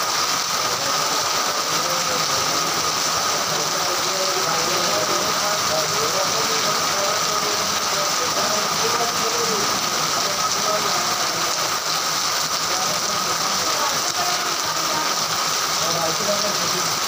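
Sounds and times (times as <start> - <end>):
heavy rain pouring: 0.0 - 17.0
rainwater streaming off roof: 0.0 - 17.0.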